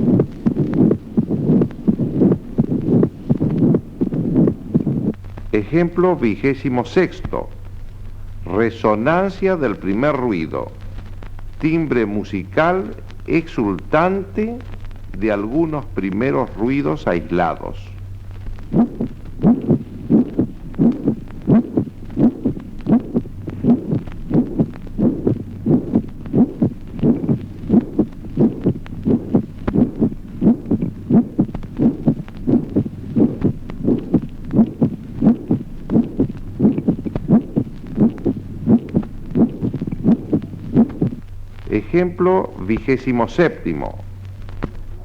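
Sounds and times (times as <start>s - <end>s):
heart beating: 0.0s - 45.0s
steady low hum: 0.0s - 45.0s.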